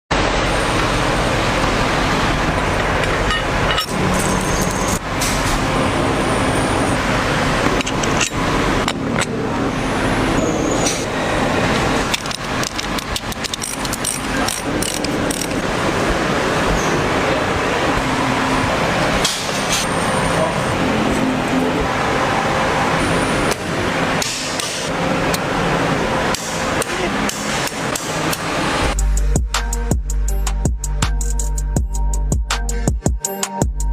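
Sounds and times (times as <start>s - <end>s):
road traffic noise: 0.1s - 33.9s.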